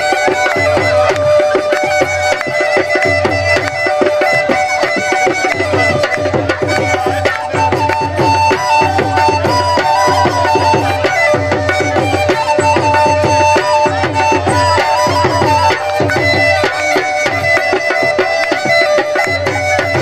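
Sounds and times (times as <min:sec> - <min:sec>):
double flute melody over drone: 0:00.0 - 0:20.0.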